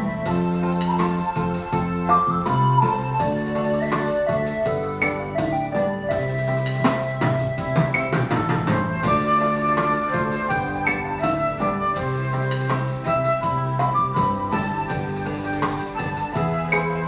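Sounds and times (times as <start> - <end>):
bass notes: 0.0 - 17.0
keyboard melody: 0.0 - 17.0
steady drum beat: 0.0 - 17.0.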